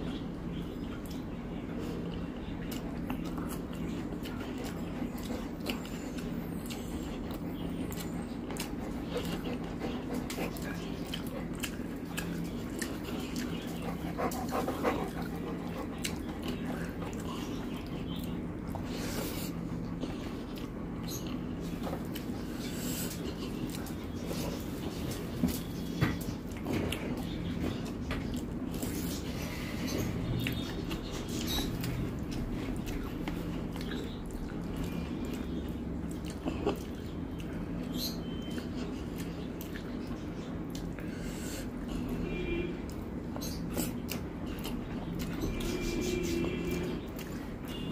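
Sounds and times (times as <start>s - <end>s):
steady low hum: 0.0s - 47.9s
chewing: 0.8s - 42.2s, 42.8s - 47.9s
wet squishing of fingers mixing food: 0.8s - 42.2s.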